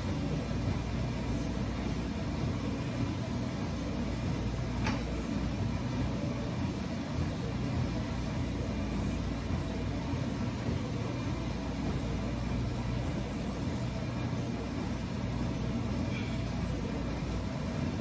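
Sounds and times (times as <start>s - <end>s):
room noise rumble and hum: 0.0s - 18.0s.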